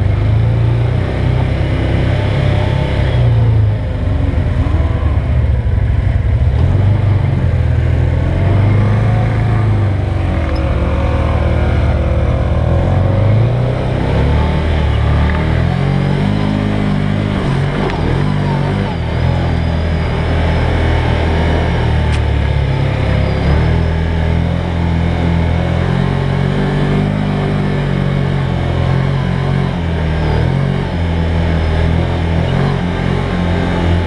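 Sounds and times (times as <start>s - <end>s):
utv engine revving: 0.0s - 34.0s.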